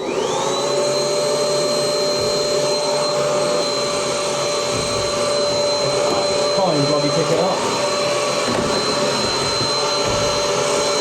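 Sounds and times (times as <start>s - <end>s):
vacuum cleaner motor whining: 0.0s - 11.0s.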